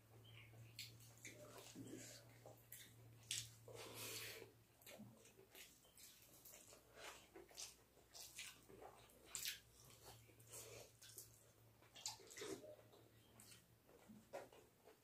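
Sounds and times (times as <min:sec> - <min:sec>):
wet chewing and lip-smacking: 0:00.2 - 0:15.0.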